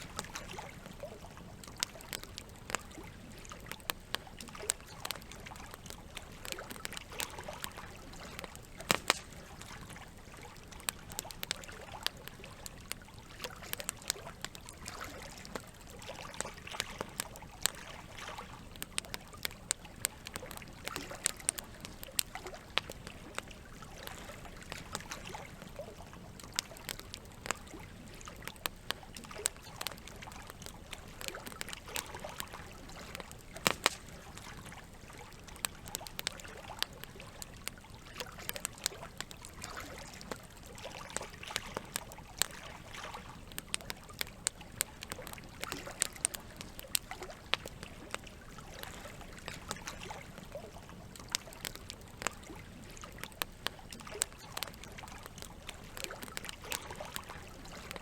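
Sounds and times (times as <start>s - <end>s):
campfire crackling and popping: 0.0s - 58.0s
running water: 0.0s - 58.0s.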